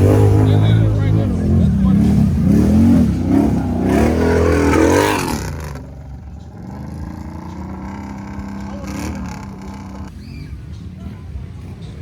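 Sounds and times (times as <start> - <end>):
atv engine revving: 0.0 - 10.7.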